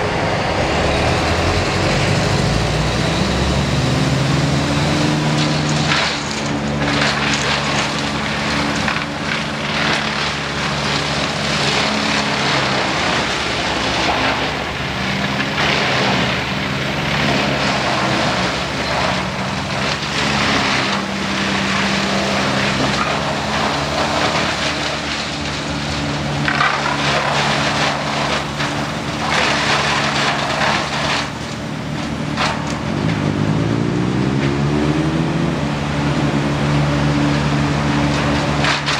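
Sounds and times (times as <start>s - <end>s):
wood chipper engine running: 0.0s - 38.9s
branches crunching in chipper: 1.1s - 38.9s.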